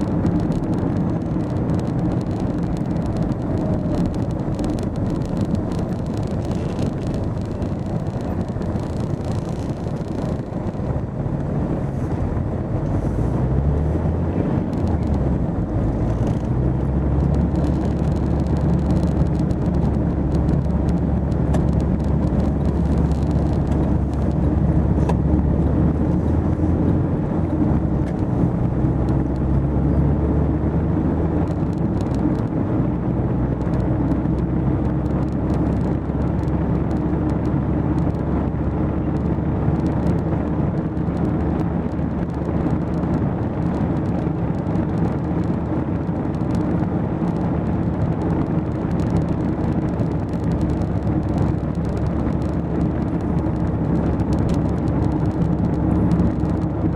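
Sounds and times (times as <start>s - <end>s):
car engine: 0.0s - 56.9s
road noise: 0.0s - 56.9s.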